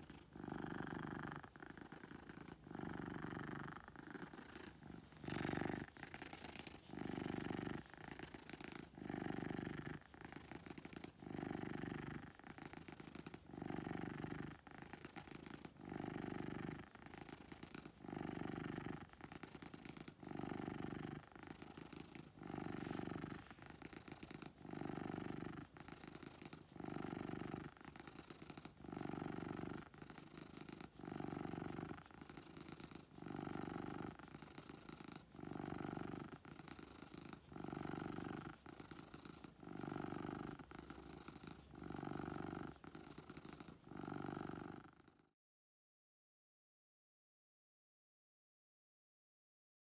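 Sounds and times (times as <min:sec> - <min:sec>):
cat purring: 0:00.0 - 0:45.4.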